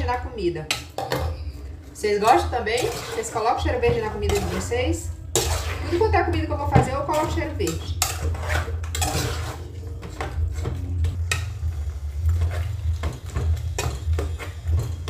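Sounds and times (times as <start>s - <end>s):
steady low hum: 0.0s - 15.0s
metal spoon scraping metal pot: 0.7s - 15.0s.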